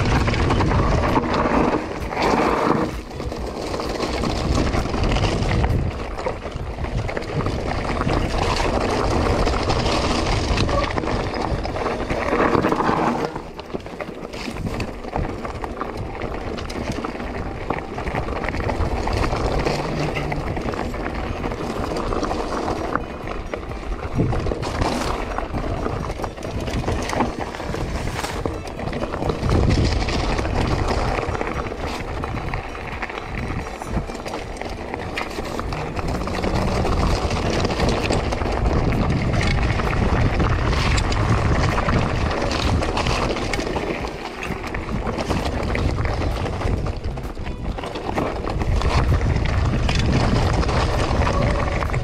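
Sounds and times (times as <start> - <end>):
bike rattling with small knocks: 0.0 - 52.0
tyres crunching over loose stones: 0.0 - 52.0
wind rumble on microphone: 0.0 - 52.0.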